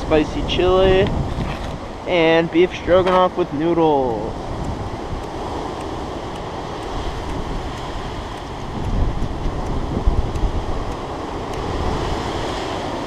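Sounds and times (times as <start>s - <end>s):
strong wind blowing: 0.0s - 13.0s
wind buffeting microphone: 0.0s - 13.0s.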